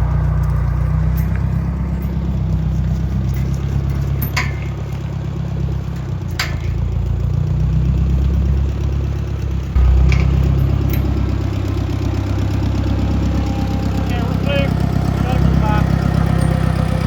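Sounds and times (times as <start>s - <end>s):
sharp metal clanks: 0.0s - 7.3s, 9.8s - 17.0s
tractor engine running: 0.0s - 17.0s.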